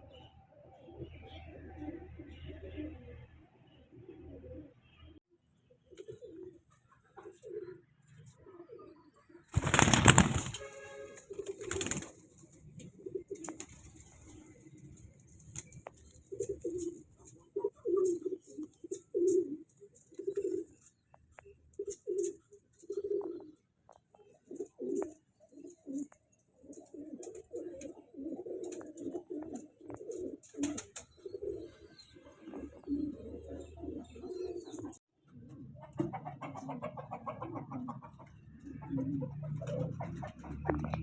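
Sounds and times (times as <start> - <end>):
pigeons cooing: 0.2 - 15.0, 15.6 - 41.0.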